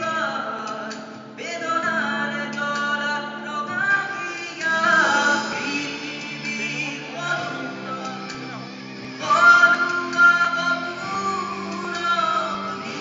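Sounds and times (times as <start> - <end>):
backing track: 0.0 - 13.0
person singing: 0.0 - 13.0.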